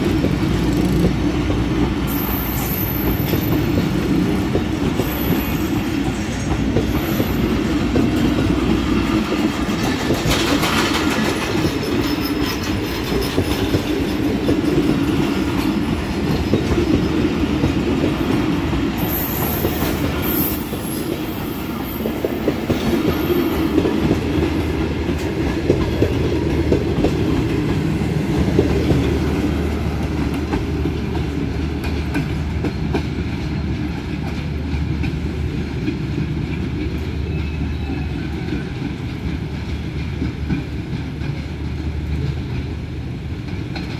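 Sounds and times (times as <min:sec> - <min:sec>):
train wheels clattering over rail joints: 0:00.0 - 0:37.7, 0:38.3 - 0:43.9.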